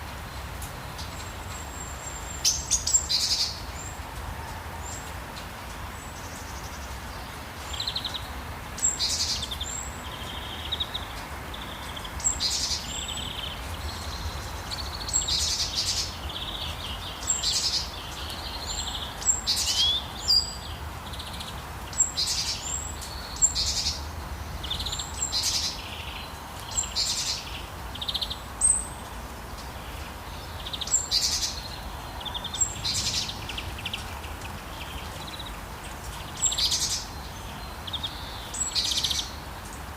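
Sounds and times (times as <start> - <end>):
birds chirping: 4.8 - 39.9.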